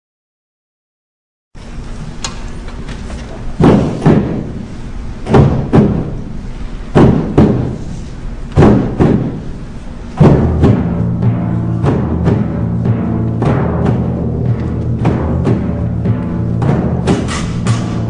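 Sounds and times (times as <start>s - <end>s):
heavy ringing drum strokes: 3.5s - 18.0s.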